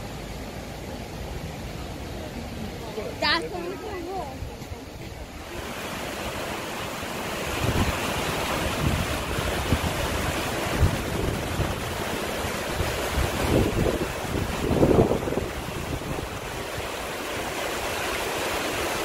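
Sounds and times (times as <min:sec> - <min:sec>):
floodwater rushing: 0:00.0 - 0:19.0
wind buffeting microphone: 0:03.2 - 0:19.0.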